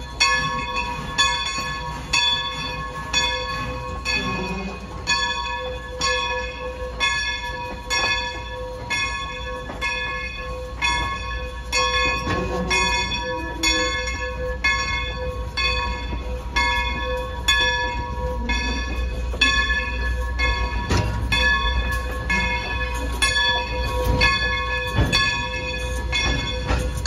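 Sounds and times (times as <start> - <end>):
locomotive bell ringing: 0.0 - 27.0
low train rumble: 0.0 - 27.0.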